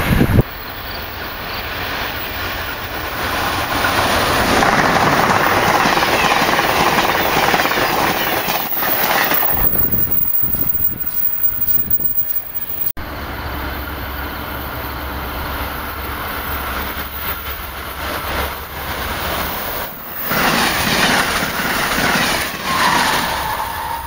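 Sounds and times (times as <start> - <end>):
train wheels rushing on rails: 0.0 - 24.0.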